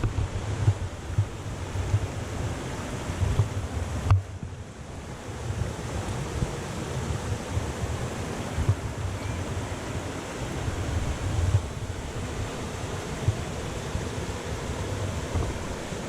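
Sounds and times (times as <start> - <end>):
falling water rushing: 0.0 - 4.2, 4.8 - 16.0
wind buffeting microphone: 0.0 - 16.0.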